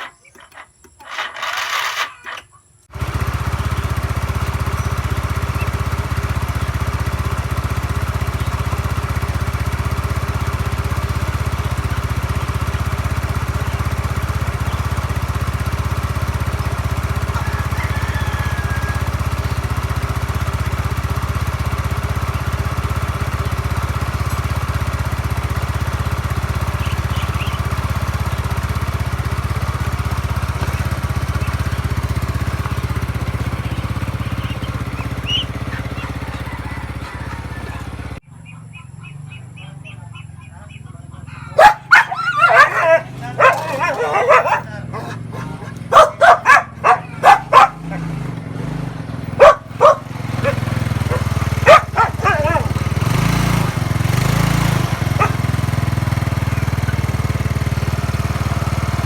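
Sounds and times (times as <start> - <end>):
scooter engine cranking: 0.0 - 38.3, 41.1 - 59.0
scooter engine running: 0.0 - 59.0.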